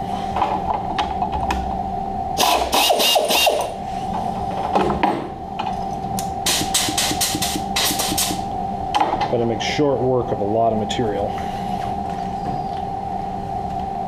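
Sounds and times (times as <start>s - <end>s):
mill spindle whine: 0.0s - 14.0s.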